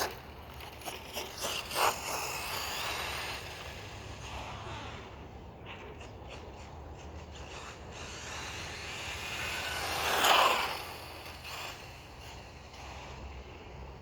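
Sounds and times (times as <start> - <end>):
rc truck driving past: 0.0 - 14.0.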